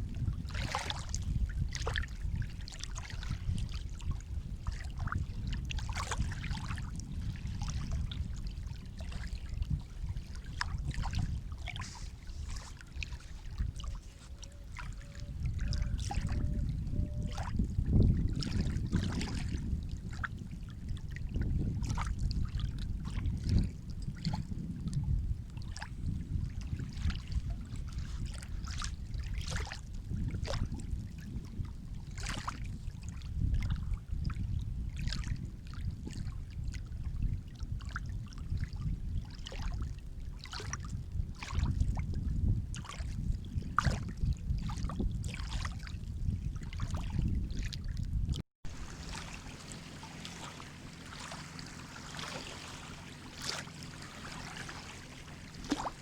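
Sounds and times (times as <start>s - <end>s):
sea water lapping: 0.0s - 56.0s
short water splashes: 0.0s - 56.0s.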